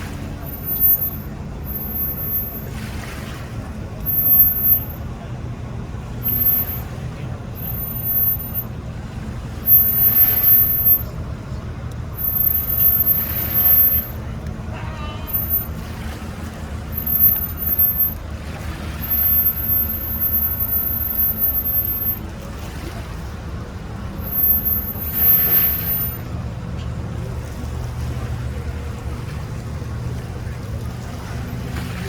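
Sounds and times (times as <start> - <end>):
engine running at low speed: 0.0 - 32.0.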